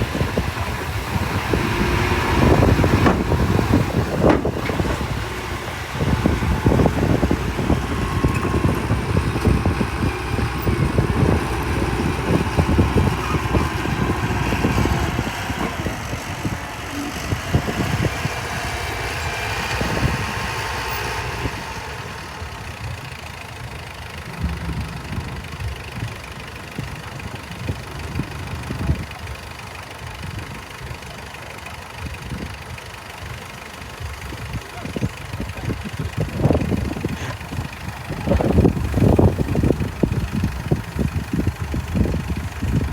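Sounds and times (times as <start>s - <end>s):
bulldozer diesel engine rumbling: 0.0s - 42.9s.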